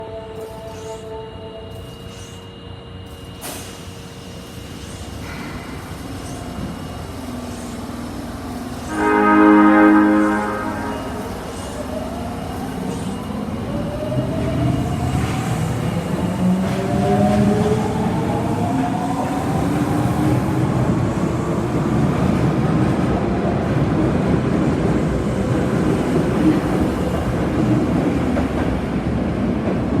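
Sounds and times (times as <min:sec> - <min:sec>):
traction motor whine: 0:00.0 - 0:27.7
wheels rumbling on rail: 0:03.4 - 0:30.0.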